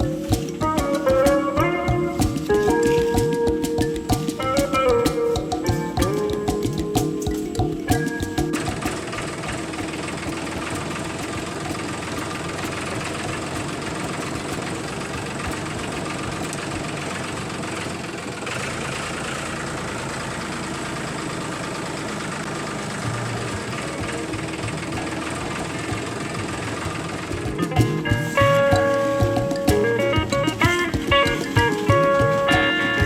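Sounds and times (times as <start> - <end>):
small motor rattling: 0.0 - 33.0.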